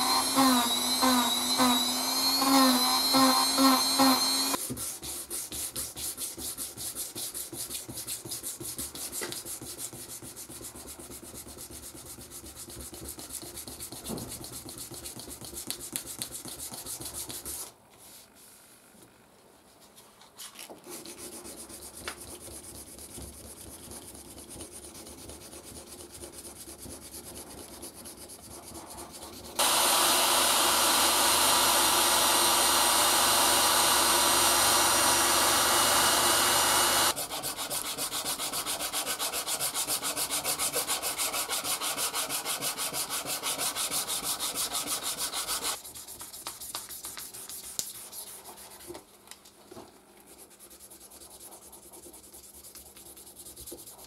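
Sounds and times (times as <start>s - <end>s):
sandpaper rubbing: 3.4s - 18.3s, 20.5s - 49.0s, 50.3s - 54.0s.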